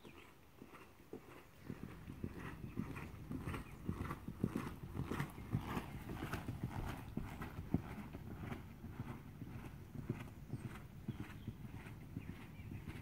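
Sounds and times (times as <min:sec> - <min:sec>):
muffled hoofbeats on sand: 0:00.0 - 0:13.0.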